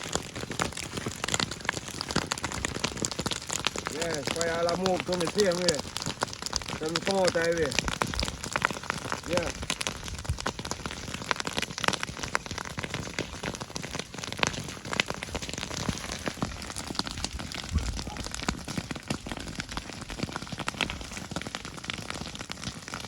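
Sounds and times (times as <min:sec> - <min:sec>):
grass fire crackling and popping: 0:00.0 - 0:23.0.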